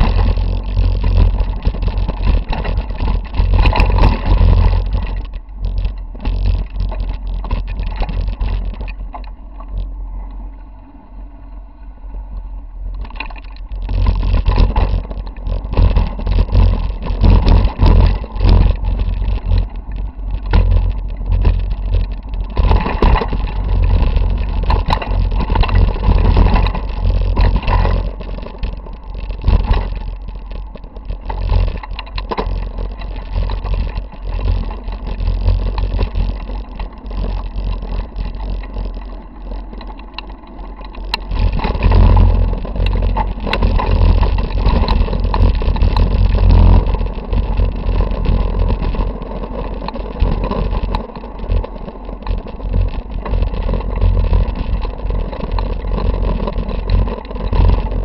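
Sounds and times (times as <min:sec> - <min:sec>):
bike rattling over bumps: 0:00.0 - 0:10.7, 0:12.0 - 0:58.0
wind rumble: 0:00.0 - 0:58.0.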